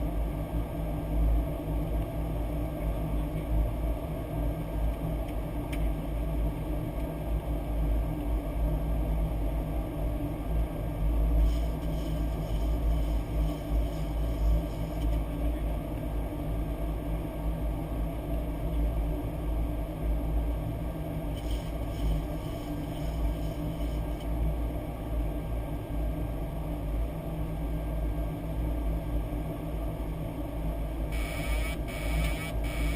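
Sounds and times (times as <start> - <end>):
aircraft cockpit engine rumble: 0.0 - 32.9.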